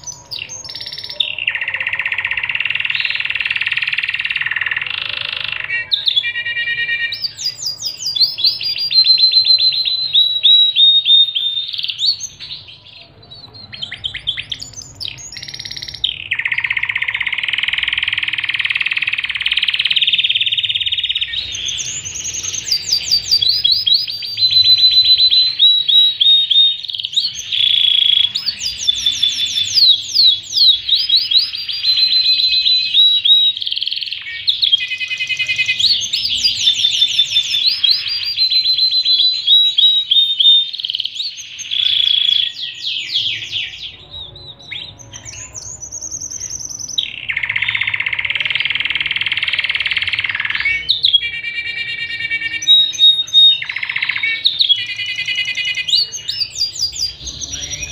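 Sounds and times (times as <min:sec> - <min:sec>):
canary singing: 0:00.0 - 0:57.9.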